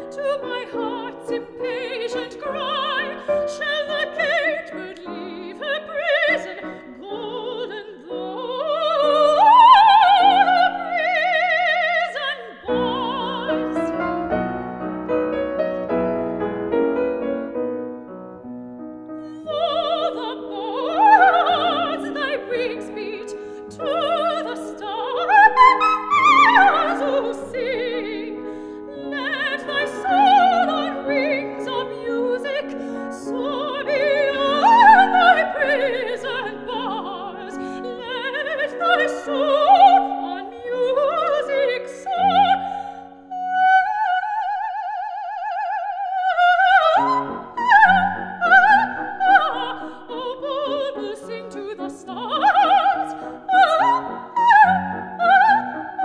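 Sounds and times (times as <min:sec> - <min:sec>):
operatic soprano singing: 0:00.0 - 0:14.0, 0:19.2 - 0:56.0
grand piano: 0:00.0 - 0:56.0.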